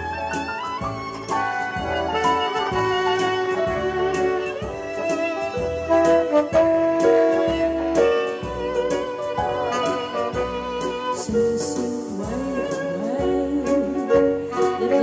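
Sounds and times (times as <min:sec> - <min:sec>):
steady beat: 0:00.0 - 0:14.4
keyboard backing: 0:00.0 - 0:15.0
violin melody: 0:00.0 - 0:15.0
saxophone melody: 0:00.1 - 0:15.0.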